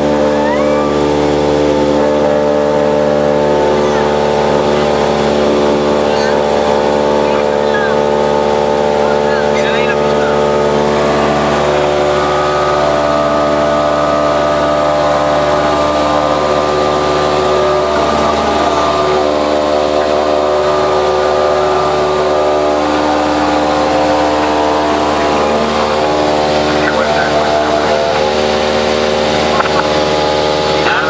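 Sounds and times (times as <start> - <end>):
light aircraft engine droning: 0.0 - 31.0.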